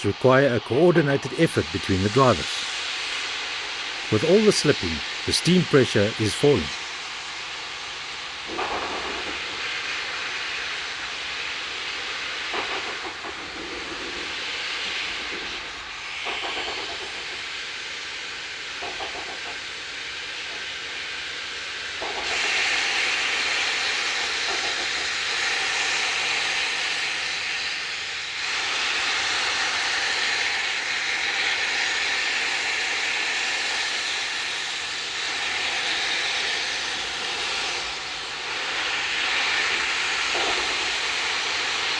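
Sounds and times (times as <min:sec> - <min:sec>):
steam locomotive hissing steam: 0:00.0 - 0:41.9.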